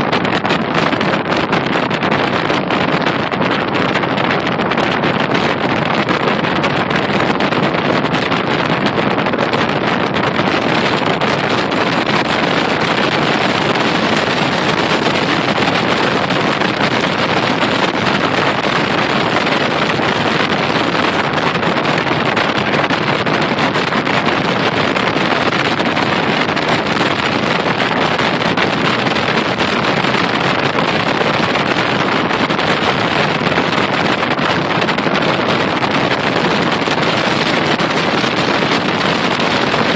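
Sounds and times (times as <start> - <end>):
wind and road noise from car: 0.0 - 39.9.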